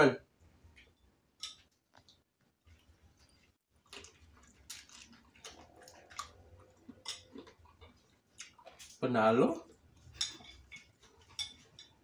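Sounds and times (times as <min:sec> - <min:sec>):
faint chewing: 0:00.6 - 0:12.0.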